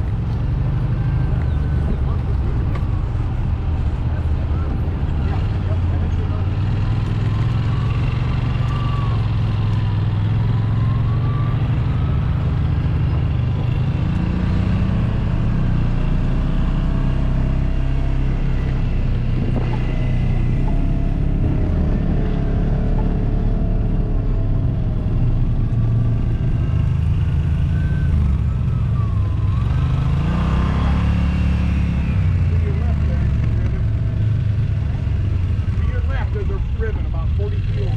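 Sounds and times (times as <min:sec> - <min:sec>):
utv engine running: 0:00.0 - 0:37.9.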